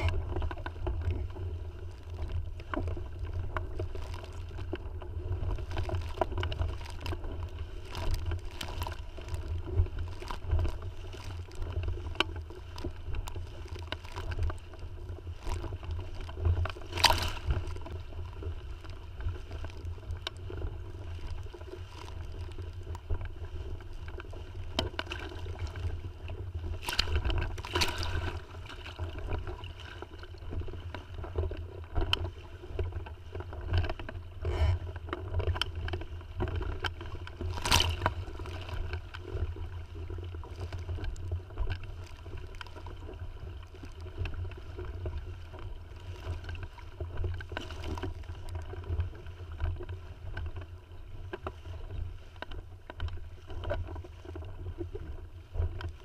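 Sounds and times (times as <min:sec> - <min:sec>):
water splashing against hull: 0:00.0 - 0:56.0
wind rumble on microphone: 0:00.0 - 0:56.0.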